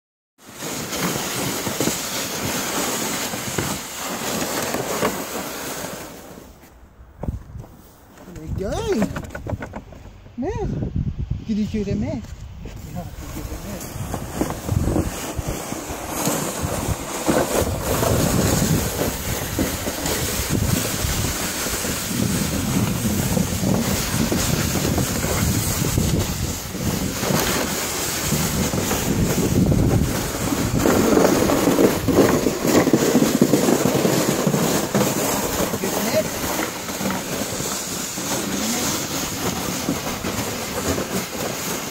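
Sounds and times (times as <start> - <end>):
snow pusher scraping on asphalt: 0.4 - 6.8, 12.7 - 41.9.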